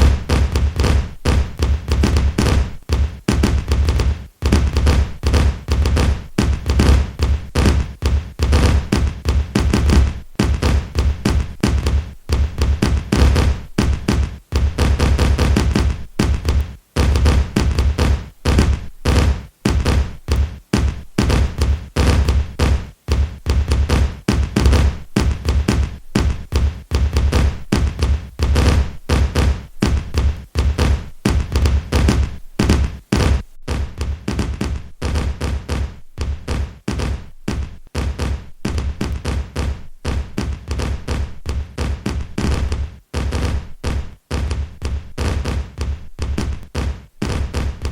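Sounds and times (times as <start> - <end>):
firecrackers crackling bangs: 0.0 - 47.9.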